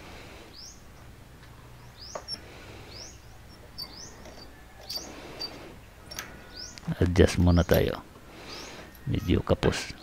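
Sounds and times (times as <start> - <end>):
bird chirping: 0.5 - 10.0.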